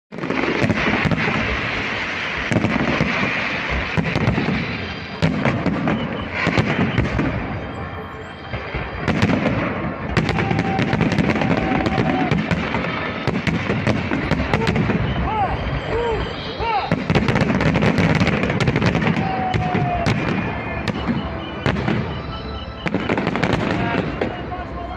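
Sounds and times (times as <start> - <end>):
firework crackle: 0.1 - 24.9.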